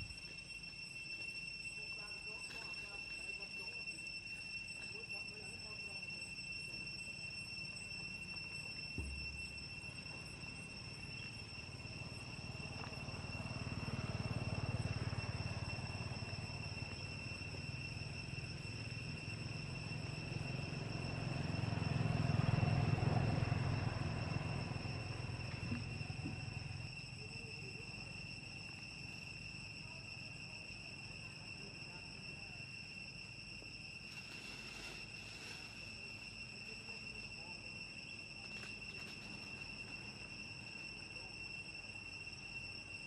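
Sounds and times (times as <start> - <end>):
insects droning: 0.0 - 43.0.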